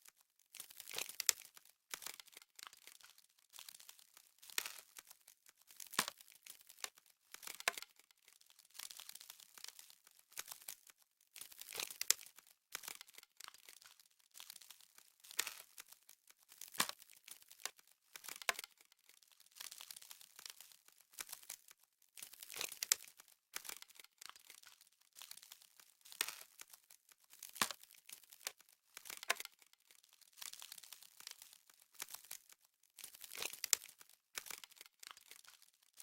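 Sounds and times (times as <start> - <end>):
frost crackling and crunching: 0.0 - 36.0.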